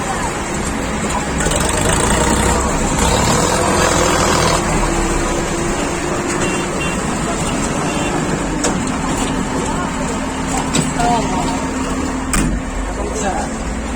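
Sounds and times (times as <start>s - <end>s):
diesel engine running in cab: 0.0s - 13.9s.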